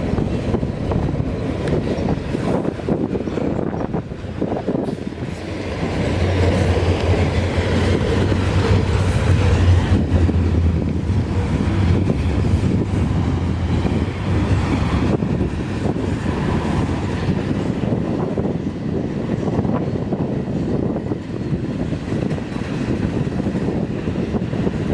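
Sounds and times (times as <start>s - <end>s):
train wheel clacks: 0.0s - 24.9s.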